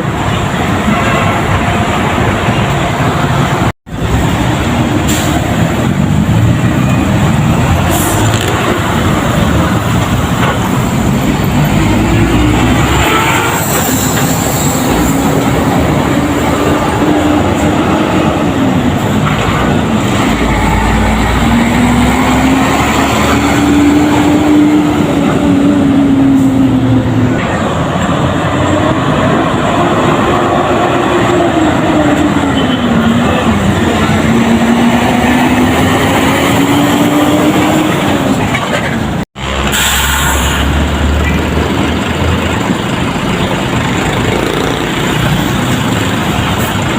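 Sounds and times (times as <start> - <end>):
road and drivetrain noise: 0.0 - 46.9
heavy truck engine shifting gears: 1.8 - 46.9.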